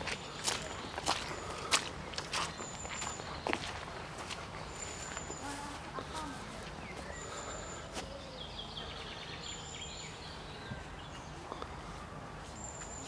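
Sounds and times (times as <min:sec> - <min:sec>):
birds singing: 0:00.0 - 0:13.0
outdoor background noise: 0:00.0 - 0:13.0.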